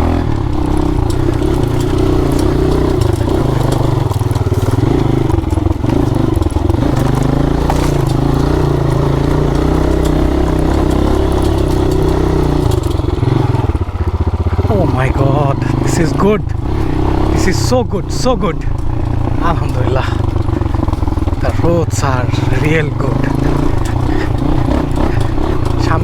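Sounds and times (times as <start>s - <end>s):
dirt bike engine running: 0.0s - 26.0s
bike knocks and rattles: 0.1s - 15.1s, 18.6s - 26.0s.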